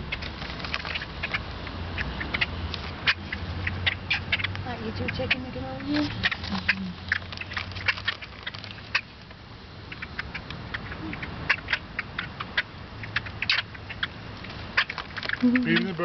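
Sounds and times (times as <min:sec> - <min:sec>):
birds squeaky calls: 0:00.0 - 0:16.0.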